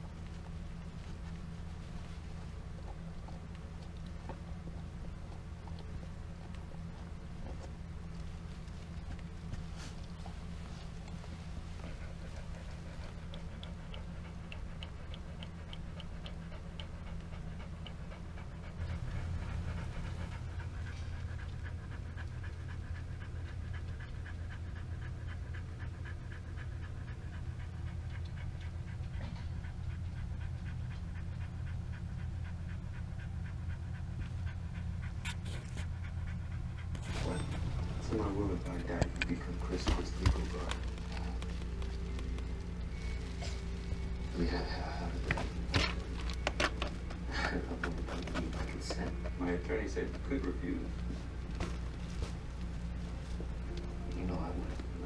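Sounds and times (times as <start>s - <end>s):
low steady hum: 0.0s - 55.0s
dog panting fast: 0.3s - 55.0s.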